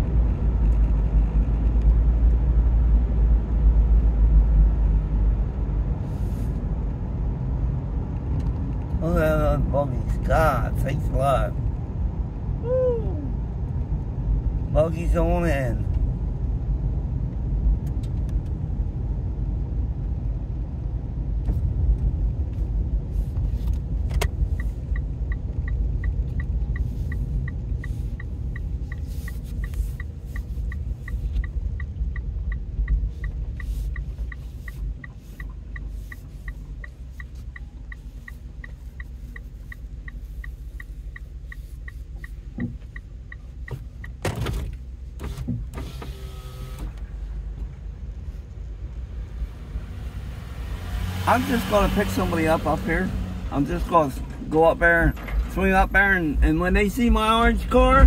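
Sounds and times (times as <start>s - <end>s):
road and engine rumble: 0.0s - 58.0s
turn signal ticking: 0.0s - 58.0s.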